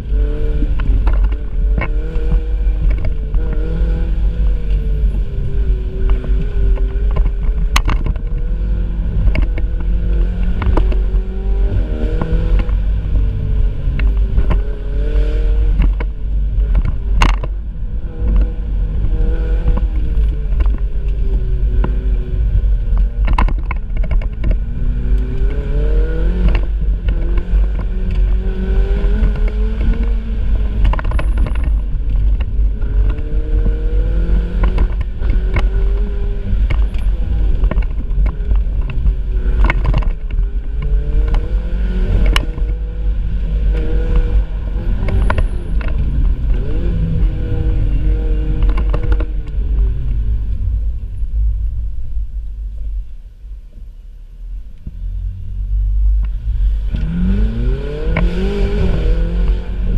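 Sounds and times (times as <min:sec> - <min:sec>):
sports car engine revving: 0:00.0 - 0:50.9, 0:55.5 - 0:59.9
low rumble: 0:00.0 - 0:59.9.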